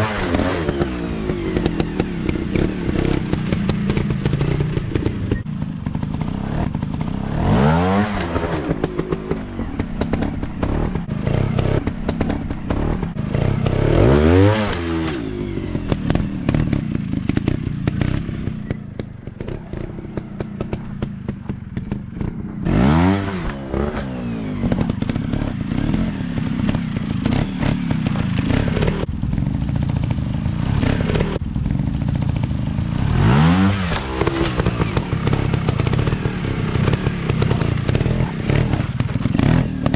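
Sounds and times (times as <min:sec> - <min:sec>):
dirt bike engines revving: 0:00.0 - 0:39.9
knocks and clatter: 0:00.1 - 0:32.7, 0:33.7 - 0:39.9.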